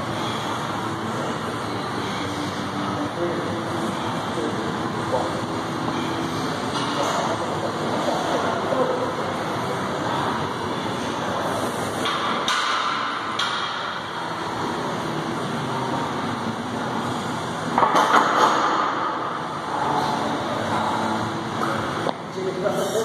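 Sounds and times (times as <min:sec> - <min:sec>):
gym background noise: 0:00.0 - 0:23.0.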